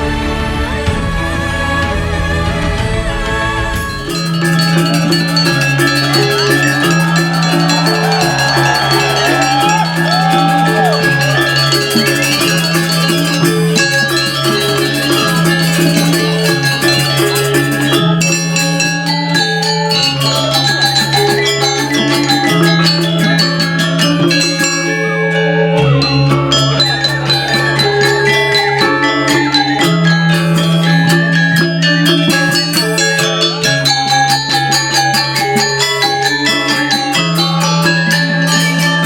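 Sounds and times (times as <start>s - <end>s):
gamelan metallophones playing: 3.8s - 39.0s.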